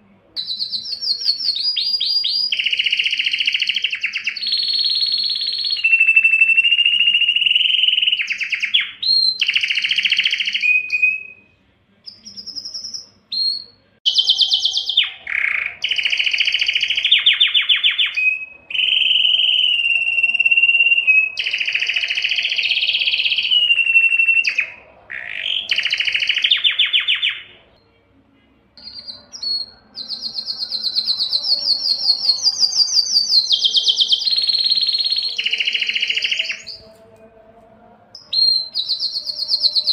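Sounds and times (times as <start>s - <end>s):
canary singing trills: 0.0s - 28.1s, 28.8s - 37.2s, 38.2s - 39.9s.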